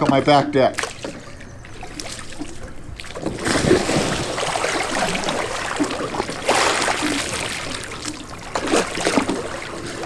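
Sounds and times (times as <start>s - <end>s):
water splashing around kayak: 0.7s - 10.0s.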